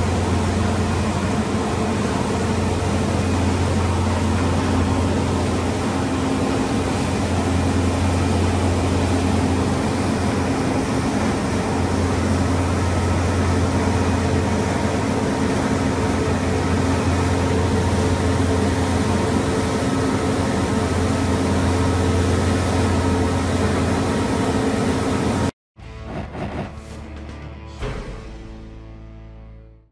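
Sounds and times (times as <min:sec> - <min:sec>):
cnc router machine hum: 0:00.0 - 0:25.5.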